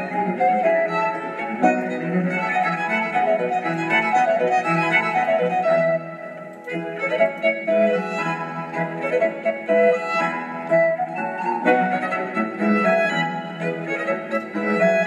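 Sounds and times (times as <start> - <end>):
violin melody over strings: 0.0 - 15.0.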